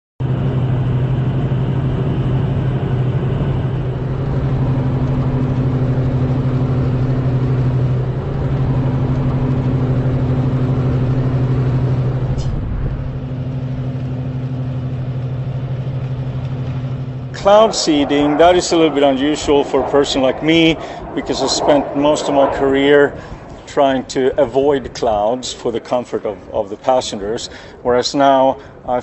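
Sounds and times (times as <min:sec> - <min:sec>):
aircraft engines droning: 0:00.2 - 0:29.0.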